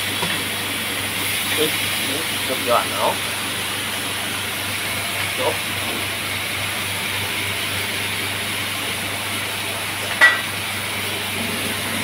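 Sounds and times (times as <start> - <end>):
meat sizzling in grill pan: 0.0 - 12.0.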